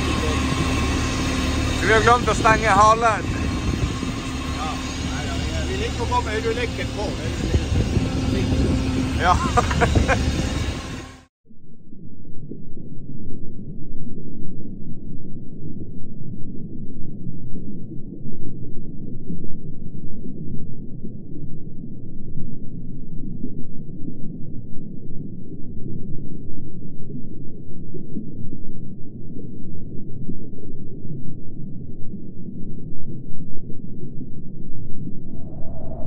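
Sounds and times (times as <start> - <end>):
muffled underwater rumble: 0.0 - 36.0.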